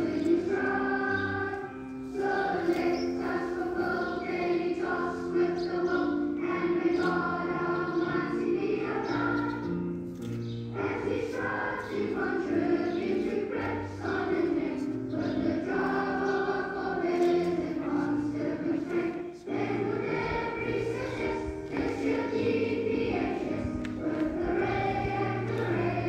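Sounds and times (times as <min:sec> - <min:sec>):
choir singing: 0:00.0 - 0:10.0, 0:10.7 - 0:26.0.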